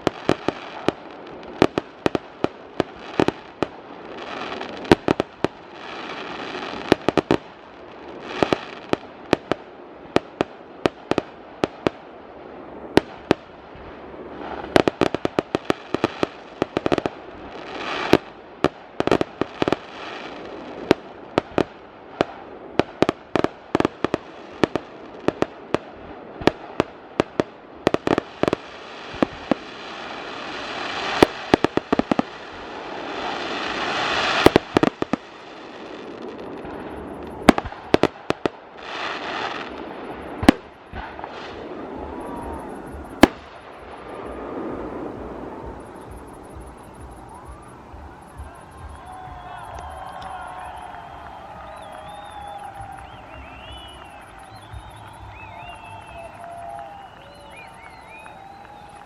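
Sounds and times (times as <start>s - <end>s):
fireworks bangs: 0.0s - 59.0s
fireworks hissing crackle: 0.0s - 59.0s.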